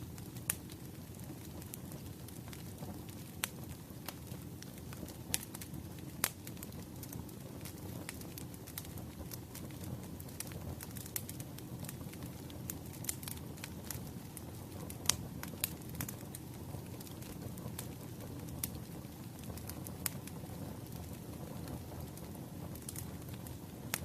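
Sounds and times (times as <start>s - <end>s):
firewood crackling and popping: 0.0s - 24.0s.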